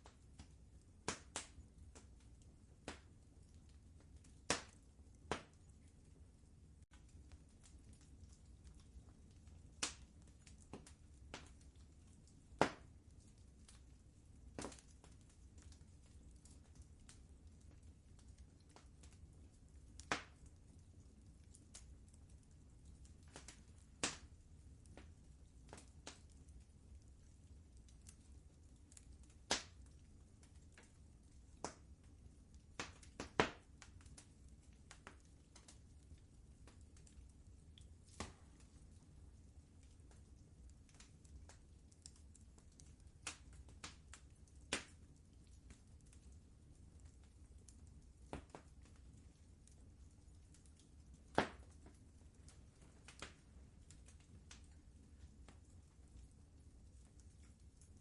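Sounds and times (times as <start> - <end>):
faint low rumble: 0.0 - 58.0
wood fire crackling: 0.0 - 58.0.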